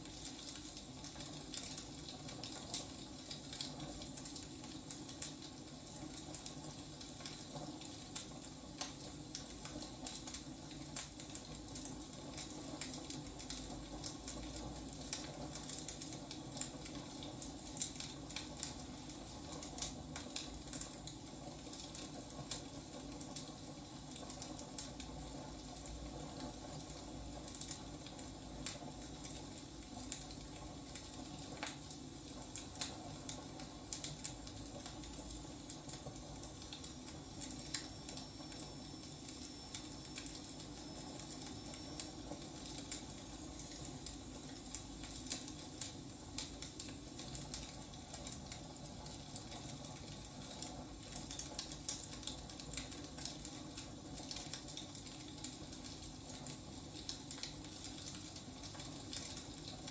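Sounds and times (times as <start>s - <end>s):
logs crackling and popping: 0.0s - 59.9s
wood fire hissing: 0.0s - 59.9s.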